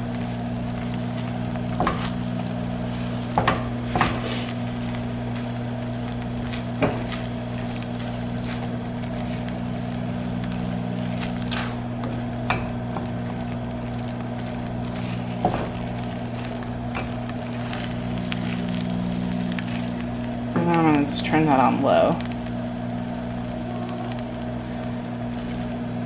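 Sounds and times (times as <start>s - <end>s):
chicken sizzling in a pan: 0.0s - 26.0s
microwave humming: 0.0s - 26.0s.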